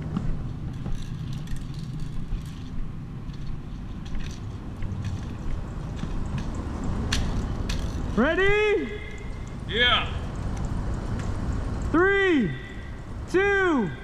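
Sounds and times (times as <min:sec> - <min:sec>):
footsteps and equipment clicks: 0:00.0 - 0:13.3.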